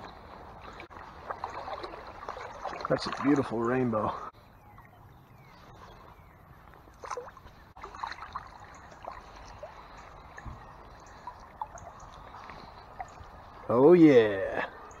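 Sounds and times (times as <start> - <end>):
stream water running: 0.0 - 15.0.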